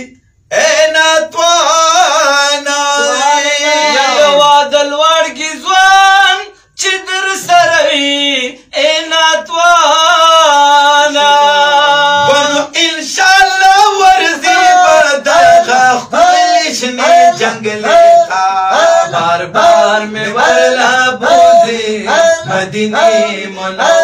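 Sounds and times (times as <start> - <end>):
men singing unaccompanied: 0.0 - 24.0.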